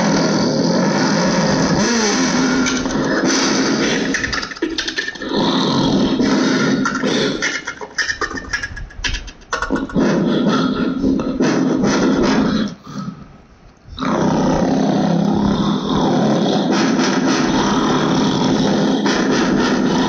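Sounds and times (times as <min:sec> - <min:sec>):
beatboxing through small speaker: 0:00.0 - 0:20.0.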